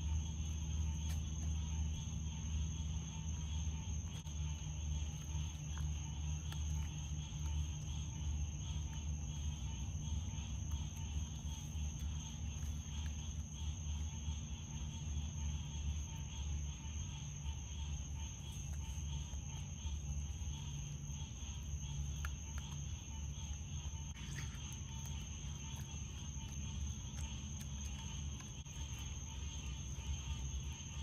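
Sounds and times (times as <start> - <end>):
crickets trilling: 0.0 - 31.0
low steady hum: 0.0 - 31.0.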